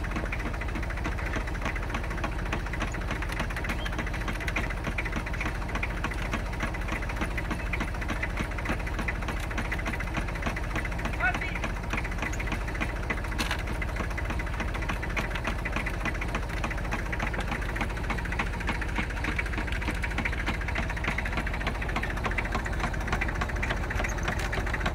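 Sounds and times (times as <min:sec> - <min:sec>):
engine drone: 0:00.0 - 0:24.9
winch chain and gears clattering: 0:00.0 - 0:24.9.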